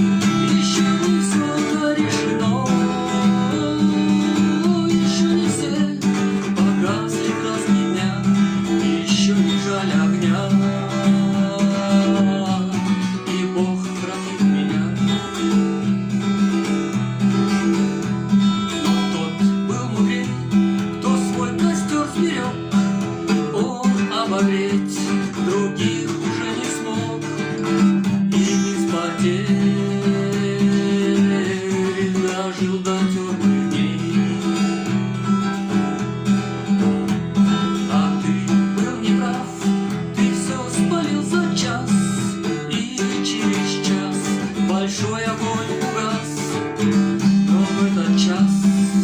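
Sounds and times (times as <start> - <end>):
acoustic guitar playing: 0.0 - 49.0.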